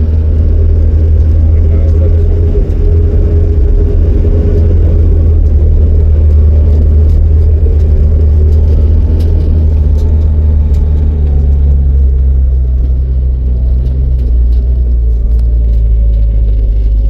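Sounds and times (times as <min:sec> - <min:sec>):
motor vehicle engine rumbling: 0:00.0 - 0:17.0.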